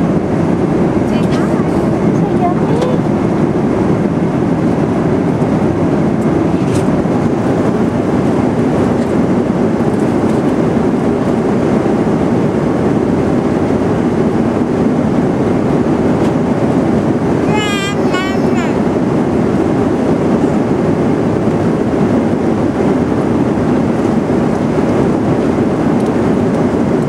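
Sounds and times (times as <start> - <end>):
airliner cabin engine rush: 0.0 - 27.0.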